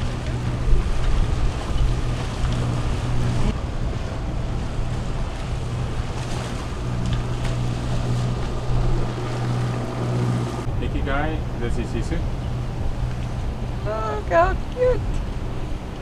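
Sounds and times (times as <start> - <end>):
boat engine hum: 0.0 - 16.0
water moving past hull: 0.0 - 16.0
wind on microphone: 0.0 - 16.0.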